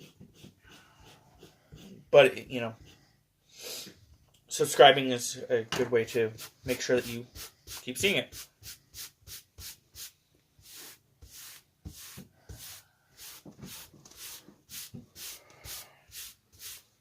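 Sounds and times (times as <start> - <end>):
rubbing strokes on paper: 0.0 - 3.1, 6.3 - 17.0.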